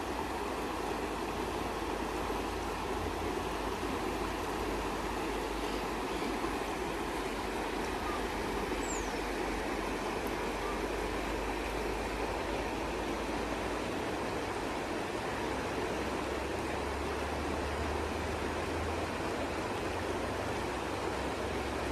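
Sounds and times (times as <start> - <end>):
river rushing over rocks: 0.0 - 21.9.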